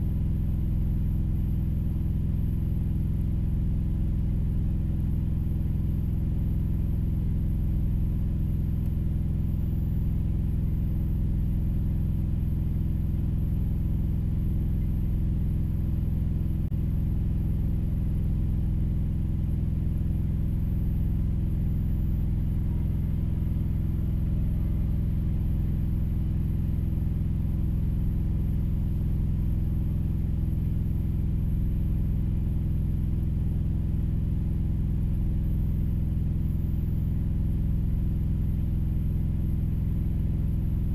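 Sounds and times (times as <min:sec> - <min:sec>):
engine idling inside cab: 0:00.0 - 0:40.9.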